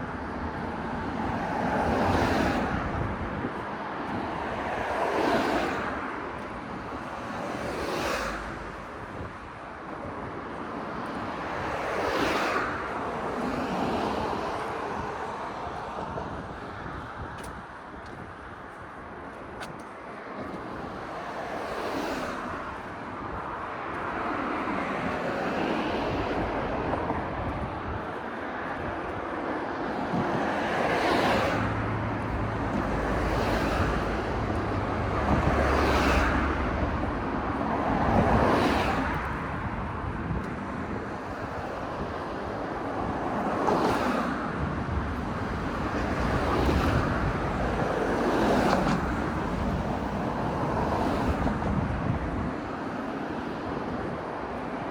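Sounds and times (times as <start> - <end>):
cars passing: 0.0 - 54.9.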